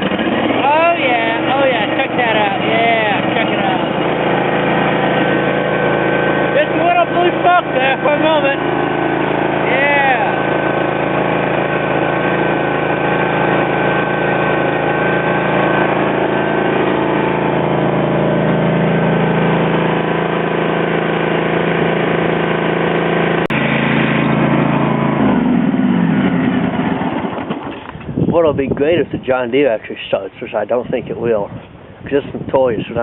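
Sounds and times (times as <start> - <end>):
riding mower engine running: 0.0 - 33.0.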